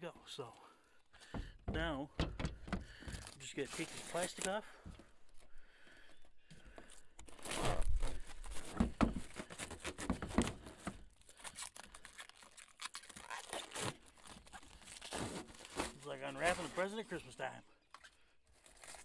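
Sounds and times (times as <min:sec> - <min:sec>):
plastic wrapping peeled and crinkled: 0:03.0 - 0:05.5, 0:06.2 - 0:19.0.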